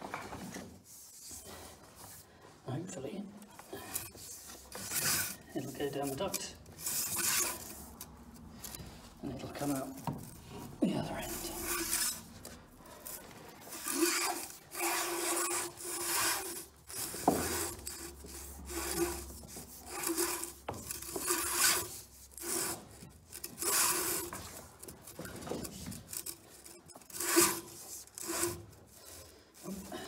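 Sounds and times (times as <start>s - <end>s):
cable scraping against duct: 3.6s - 30.0s.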